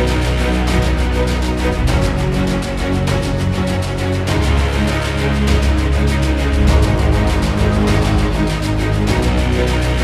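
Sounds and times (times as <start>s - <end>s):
background music with fast beat: 0.0s - 10.0s.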